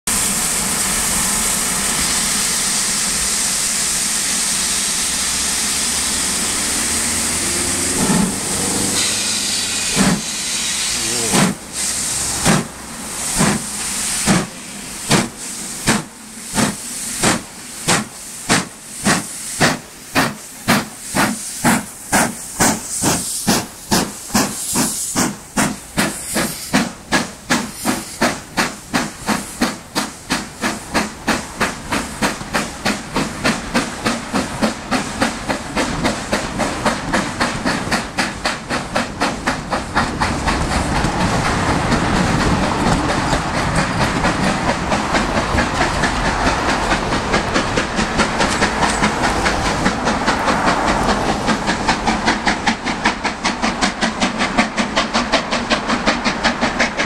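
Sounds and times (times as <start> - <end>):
steam hissing: 0.1 - 57.0
steam locomotive exhaust chuffs: 0.1 - 57.0.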